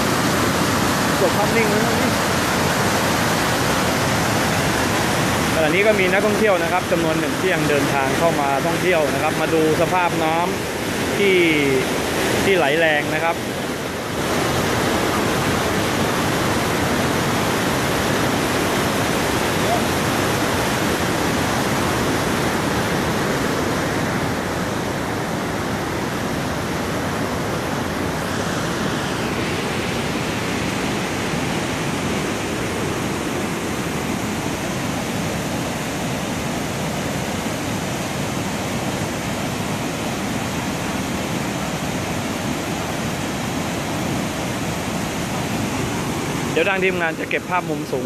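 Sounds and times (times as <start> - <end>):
floodwater rushing over waterfall: 0.0 - 48.0.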